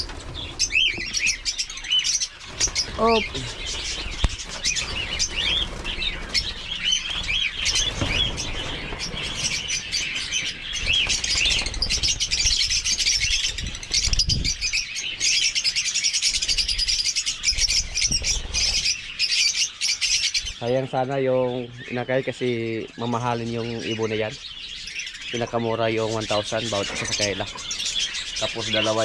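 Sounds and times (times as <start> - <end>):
birds chirping shrilly: 0.0 - 29.0.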